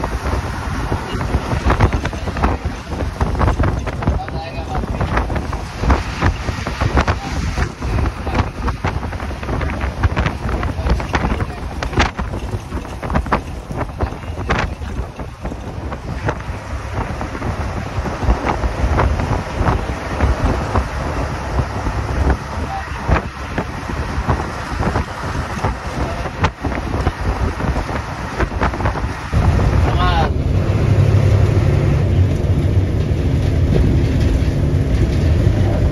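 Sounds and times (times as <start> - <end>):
knocks and rattles: 0.0 - 30.4, 31.0 - 35.9
bus engine and road rumble: 0.0 - 35.9
wind noise: 0.0 - 35.9.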